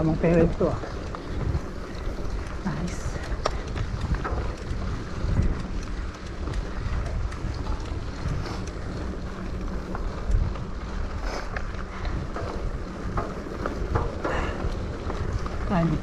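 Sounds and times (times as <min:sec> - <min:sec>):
faint clicks: 0:00.0 - 0:16.0
wind buffeting microphone: 0:00.0 - 0:16.0.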